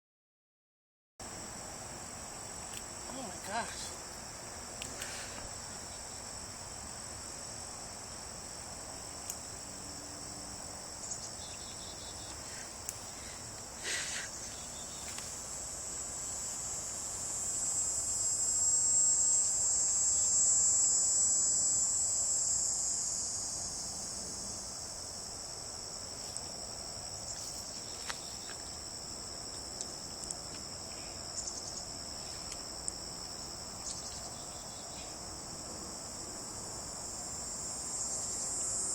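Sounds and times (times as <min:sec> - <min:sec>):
chorus of insects: 0:01.2 - 0:38.9.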